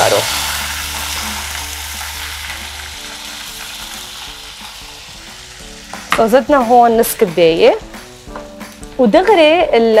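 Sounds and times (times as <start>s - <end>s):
frying pan sizzling: 0.0s - 10.0s.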